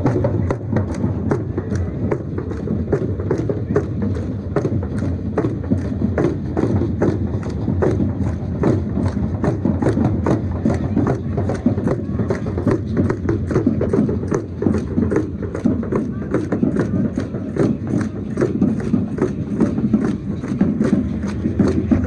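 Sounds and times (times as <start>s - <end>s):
crowd voices: 0.0s - 22.0s
dancers stamping steps: 0.0s - 22.0s
drum beaten in quick rhythm: 0.0s - 22.0s.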